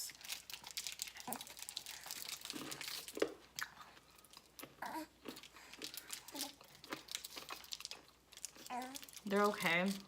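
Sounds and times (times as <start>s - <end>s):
crunchy candy being chewed: 0.0s - 10.0s.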